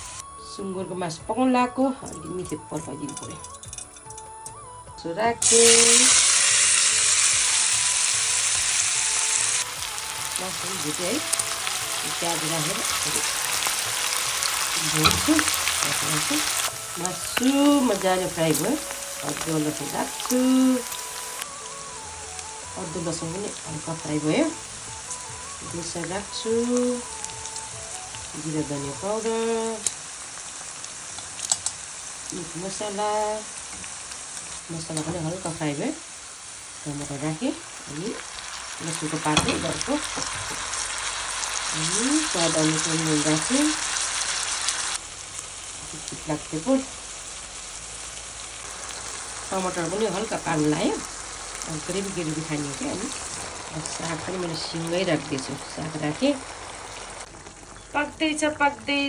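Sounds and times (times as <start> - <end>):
greens sizzling in hot oil: 0.0 - 59.0.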